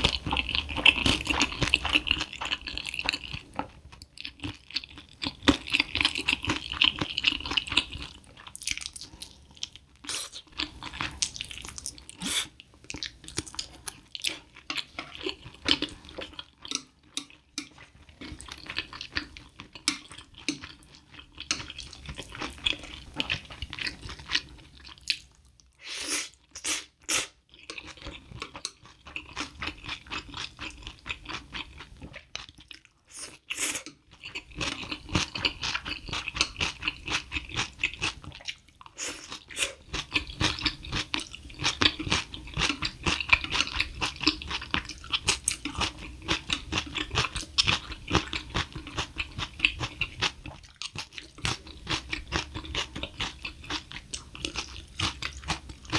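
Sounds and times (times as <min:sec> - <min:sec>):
chewing and crunching noodles: 0:00.0 - 0:55.9.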